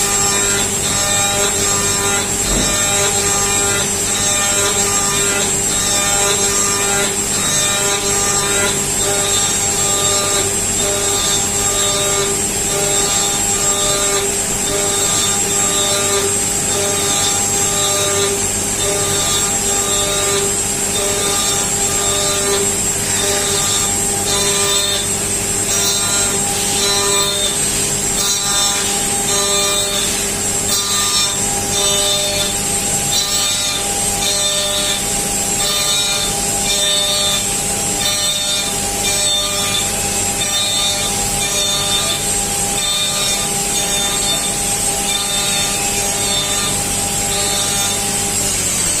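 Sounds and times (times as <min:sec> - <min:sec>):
machine spindle whine: 0:00.0 - 0:49.0
rasping metal cutting: 0:00.0 - 0:49.0.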